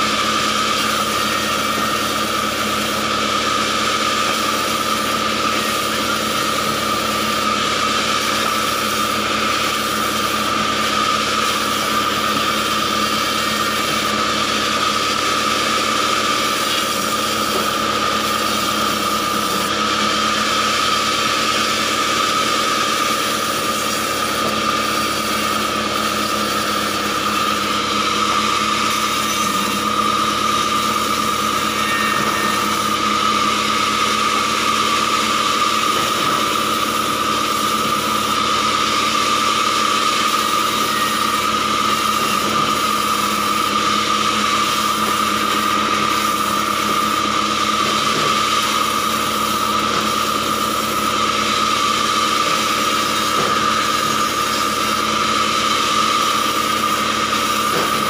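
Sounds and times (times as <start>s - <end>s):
band saw cutting logs: 0.0s - 58.0s.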